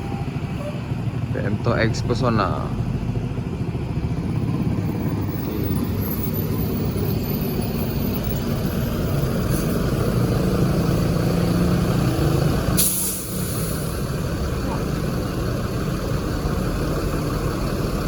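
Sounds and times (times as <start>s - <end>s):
bus engine low drone: 0.0s - 18.0s.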